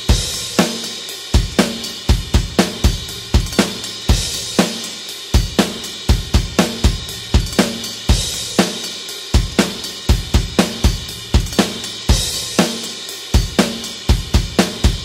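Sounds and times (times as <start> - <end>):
rock drum kit groove: 0.0 - 15.0.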